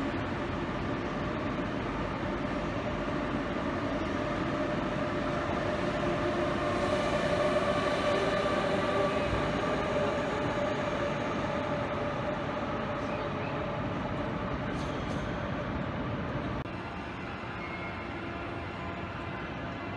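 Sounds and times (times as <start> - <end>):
high-speed train rolling: 0.0 - 19.9.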